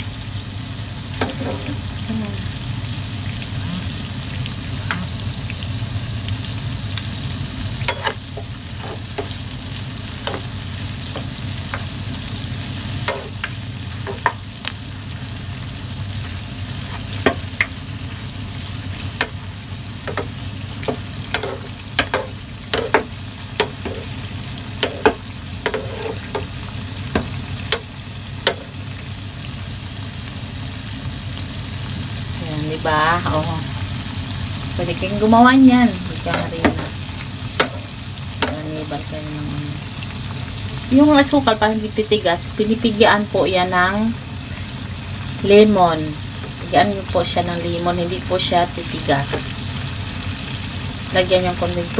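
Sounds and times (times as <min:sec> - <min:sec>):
hot oil sizzling: 0:00.0 - 0:51.9.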